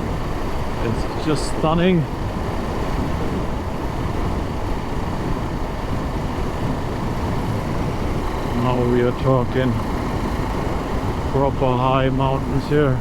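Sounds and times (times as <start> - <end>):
road noise: 0.0 - 13.0
wind rush: 0.0 - 13.0.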